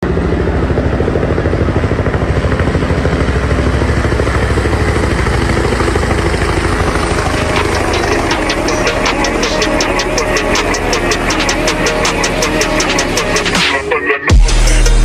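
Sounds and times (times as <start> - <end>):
helicopter rotor blades chopping: 0.0 - 15.0.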